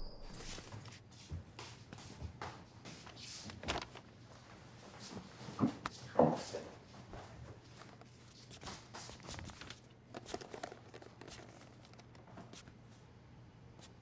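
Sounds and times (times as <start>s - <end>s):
low room hum: 0.0s - 14.0s
rustling and handling noises: 0.2s - 13.1s.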